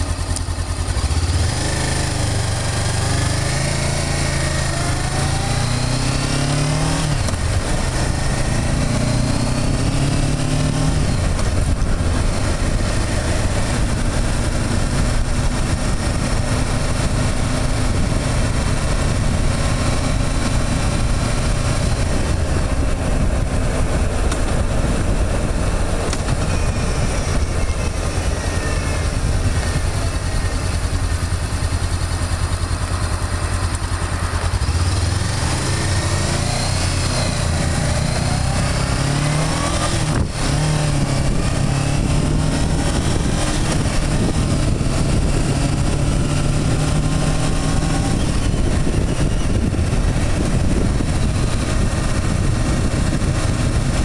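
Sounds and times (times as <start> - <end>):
motorcycle engine accelerating: 0.0 - 54.0
wind rushing: 6.8 - 31.5, 34.6 - 54.0.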